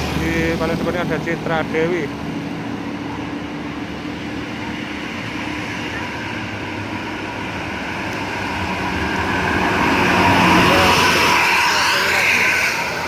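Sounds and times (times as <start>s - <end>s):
bus engines climbing hill: 0.0s - 13.0s
road noise: 0.0s - 13.0s.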